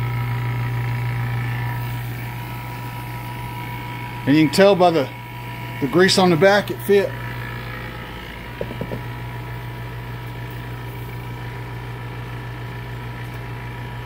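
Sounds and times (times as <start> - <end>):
vacuum pump humming: 0.0 - 14.0.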